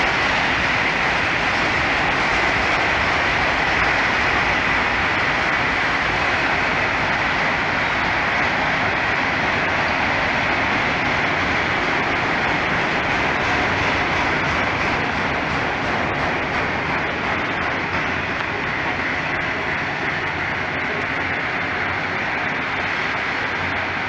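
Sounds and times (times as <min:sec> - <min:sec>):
train wheels on rail: 0:00.0 - 0:24.0.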